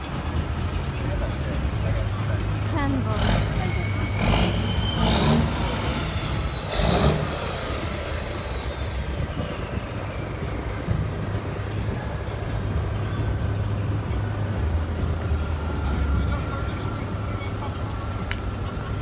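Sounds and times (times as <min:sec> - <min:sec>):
truck engine humming: 0:00.0 - 0:19.0
rush of noise: 0:03.2 - 0:19.0.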